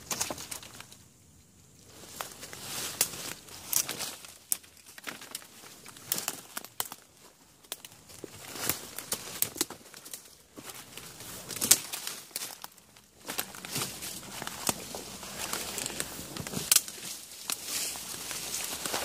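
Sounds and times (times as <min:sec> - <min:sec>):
footsteps crunching dry leaves: 0:01.9 - 0:19.0
twig cracking: 0:02.1 - 0:19.0.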